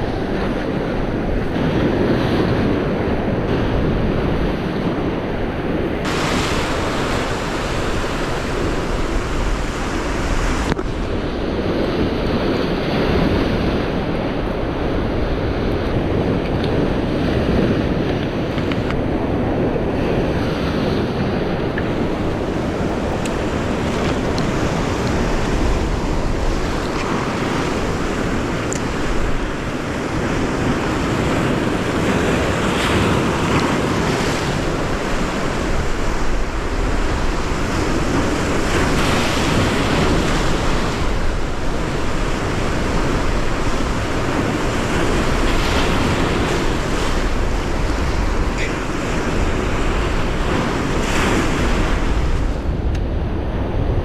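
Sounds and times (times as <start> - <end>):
waves washing over rocky shore: 0.0 - 53.2
wind buffeting the microphone: 0.0 - 54.0.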